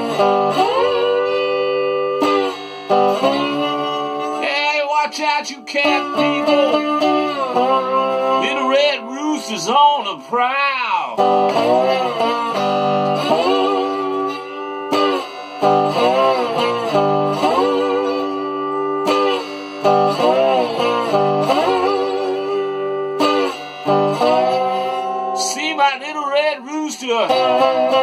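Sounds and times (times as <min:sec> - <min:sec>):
sharply struck guitar chords: 0:00.0 - 0:28.0
slide electric guitar blues riff: 0:00.0 - 0:28.0.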